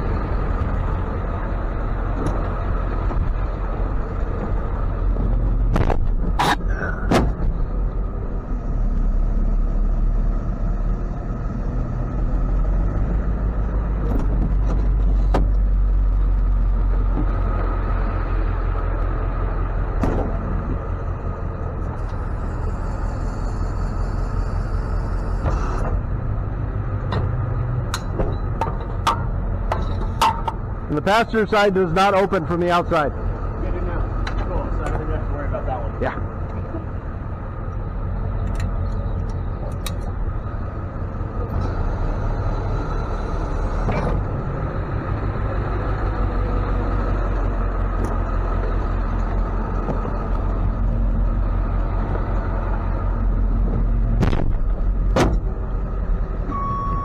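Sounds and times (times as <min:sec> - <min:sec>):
truck engine rumbling: 0:00.0 - 0:57.0.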